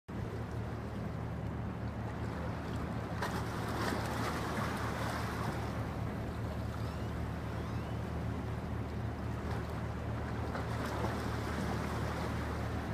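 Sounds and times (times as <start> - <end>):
ship diesel engines droning: 0.2 - 12.9.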